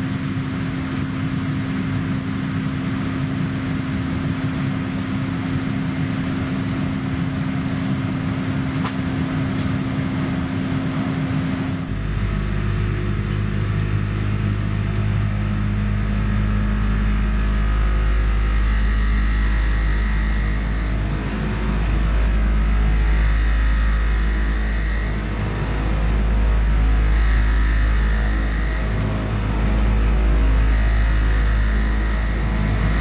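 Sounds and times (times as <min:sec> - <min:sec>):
airplane cabin hum: 0:00.0 - 0:33.0.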